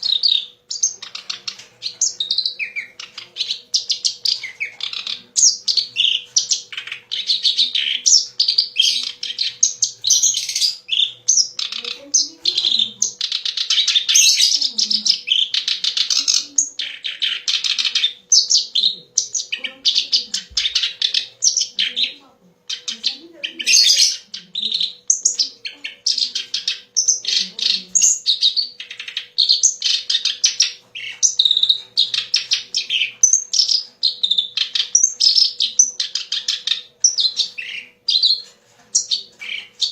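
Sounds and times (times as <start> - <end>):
reed warbler singing: 0.0 - 38.4.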